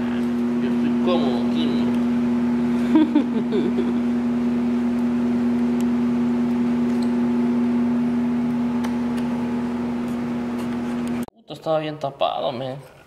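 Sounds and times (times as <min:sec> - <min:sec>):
steady motor hum: 0:00.0 - 0:11.3.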